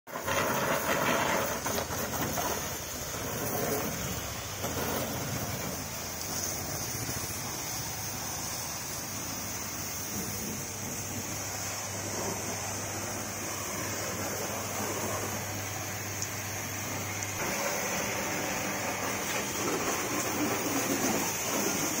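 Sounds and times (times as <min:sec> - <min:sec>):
pressure washer spraying water: 0:00.1 - 0:22.0.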